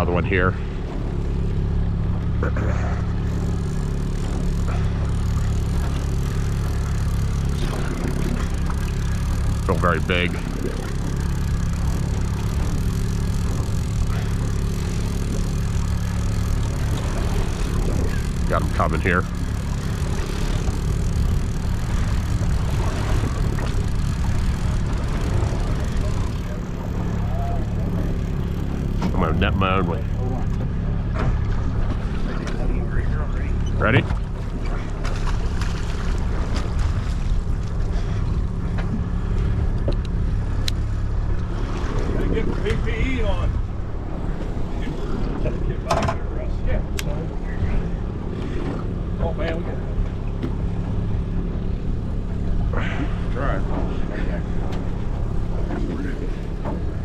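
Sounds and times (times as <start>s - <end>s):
boat motor humming: 0.0s - 57.0s.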